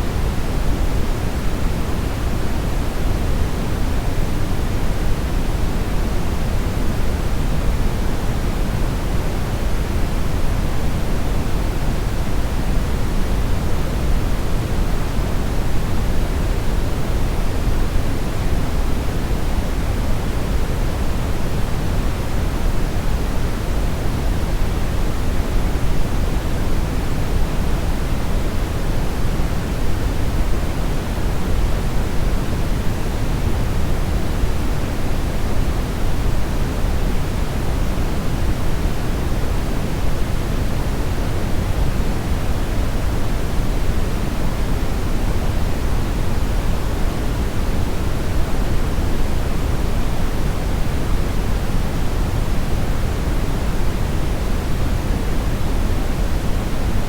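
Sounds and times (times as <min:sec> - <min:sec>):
deep brown noise hiss: 0:00.0 - 0:57.0.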